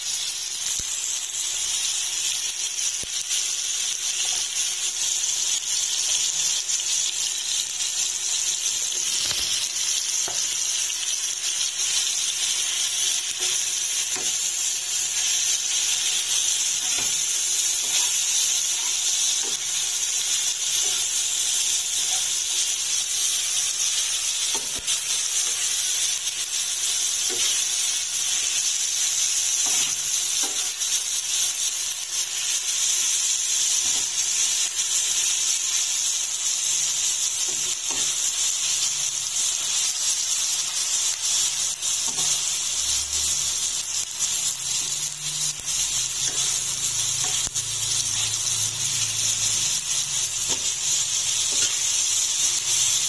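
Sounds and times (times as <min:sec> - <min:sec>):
vegetables sizzling on a griddle: 0:00.0 - 0:53.0.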